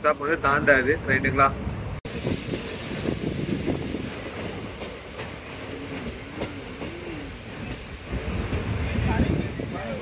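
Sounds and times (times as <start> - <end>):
train wheels rolling on rails: 0.0 - 10.0.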